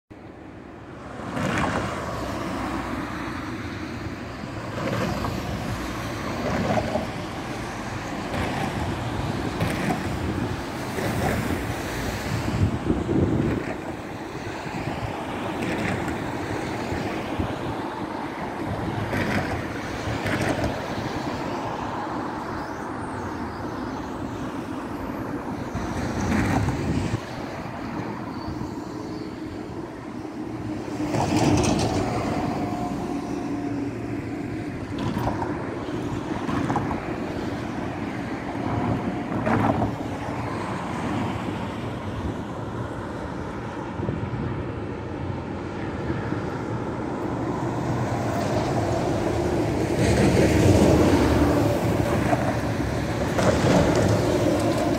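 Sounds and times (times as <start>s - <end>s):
road traffic passing: 0.1s - 54.9s
wind buffeting microphone: 1.2s - 54.9s.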